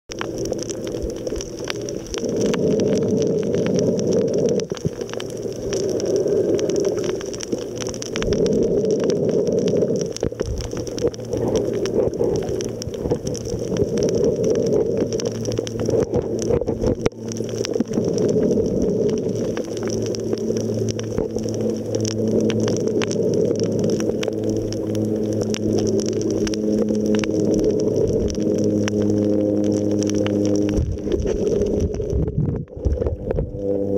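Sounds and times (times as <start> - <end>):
steady low hum: 0.1 - 33.9
water rushing and sloshing: 0.1 - 33.9.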